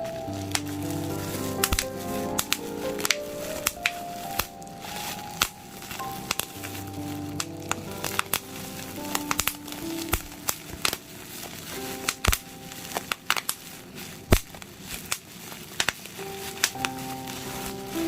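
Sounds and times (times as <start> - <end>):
bubble wrap popping: 0.0 - 18.0
plastic crinkling: 0.0 - 18.0
soft background music: 0.0 - 18.0.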